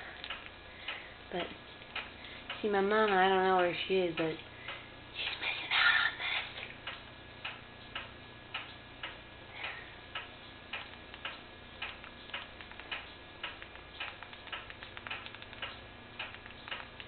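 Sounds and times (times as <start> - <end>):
clock ticking: 0.2 - 5.4, 6.8 - 17.0.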